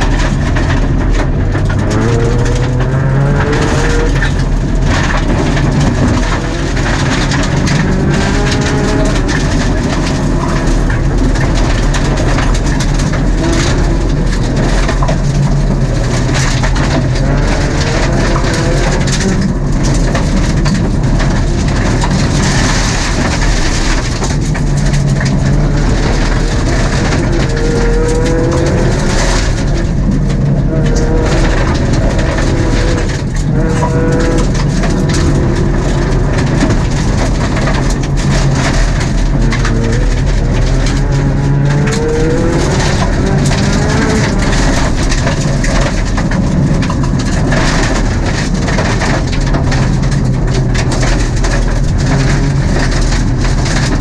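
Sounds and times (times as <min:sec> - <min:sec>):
gravel pelting car underbody: 0:00.0 - 0:54.0
rally car engine running hard: 0:00.0 - 0:54.0.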